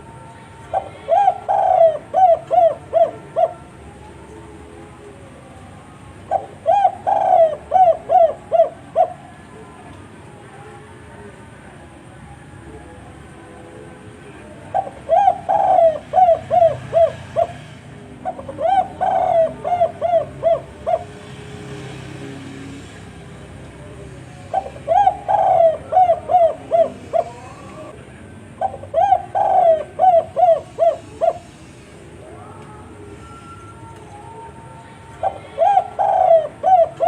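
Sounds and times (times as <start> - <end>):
dove cooing: 0.0 - 5.3, 6.1 - 9.9, 13.1 - 37.0.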